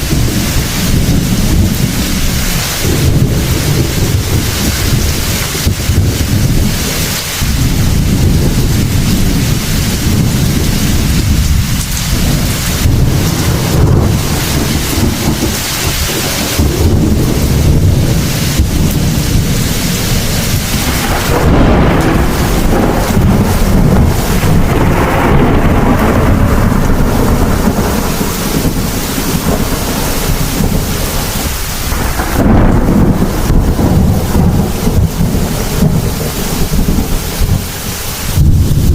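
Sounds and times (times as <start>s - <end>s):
heavy rain: 0.0s - 38.9s
thunder rumbling: 0.0s - 38.9s.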